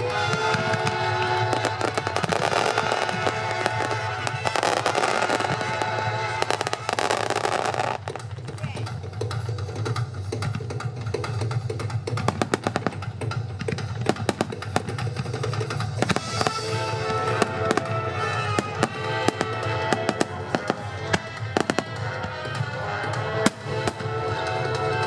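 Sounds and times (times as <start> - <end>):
big-band swing music: 0.0 - 25.0
fireworks bursting: 0.0 - 25.0.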